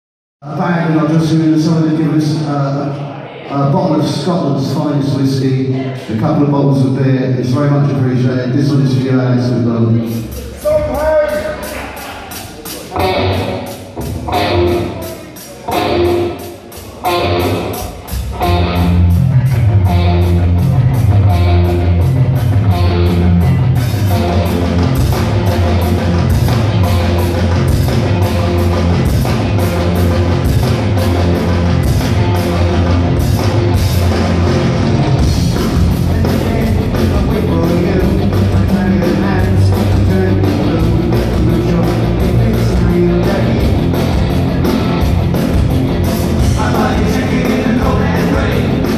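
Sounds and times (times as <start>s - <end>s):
live rock band: 3.6s - 48.9s.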